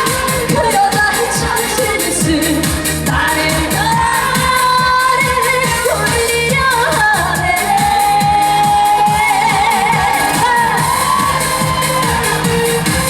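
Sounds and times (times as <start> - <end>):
band backing track: 0.0 - 13.0.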